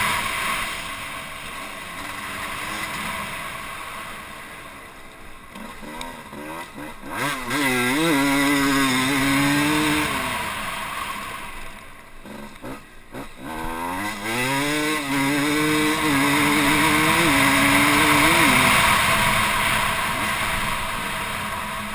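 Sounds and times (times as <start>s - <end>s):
dirt bike engine revving: 0.0s - 4.6s, 5.5s - 21.9s.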